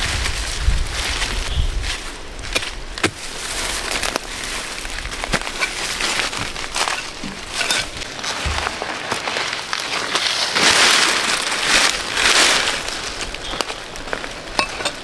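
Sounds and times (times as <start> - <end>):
crackling and rustling: 0.0 - 15.0.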